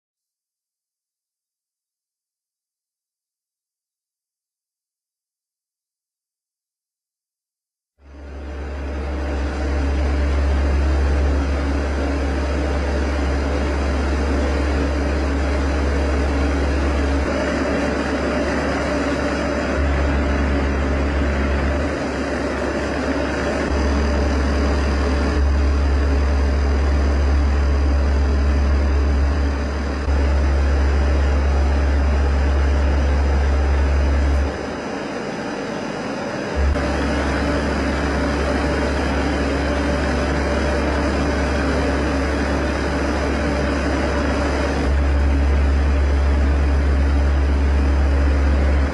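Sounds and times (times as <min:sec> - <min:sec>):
loud steady low hum: 0:08.0 - 0:48.9.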